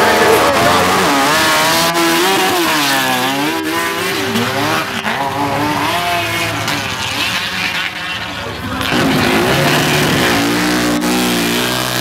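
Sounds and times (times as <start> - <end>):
atv engines revving: 0.0 - 12.0.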